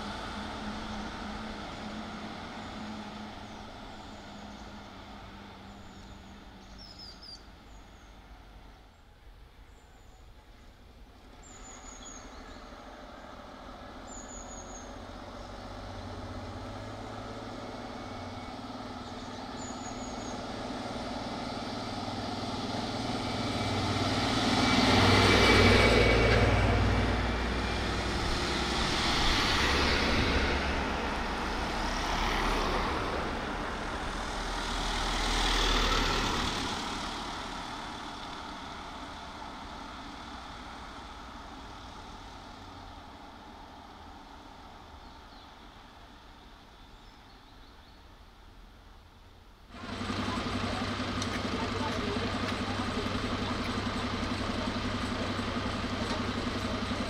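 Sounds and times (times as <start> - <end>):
heavy trucks driving past: 0.0 - 6.8, 11.2 - 46.7, 49.7 - 57.0.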